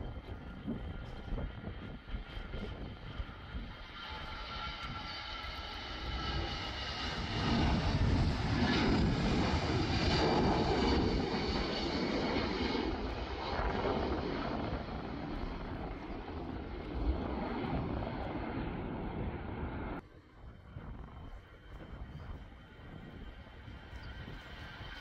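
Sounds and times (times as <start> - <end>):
jet airliner taking off: 0.0 - 25.0.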